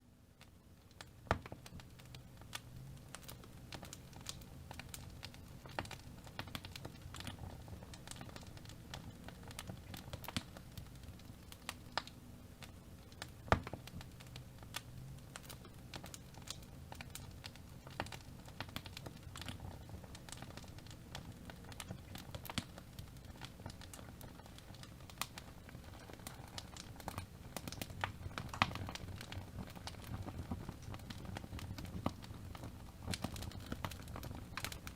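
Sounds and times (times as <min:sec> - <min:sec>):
wood fire crackling: 0:00.3 - 0:34.9.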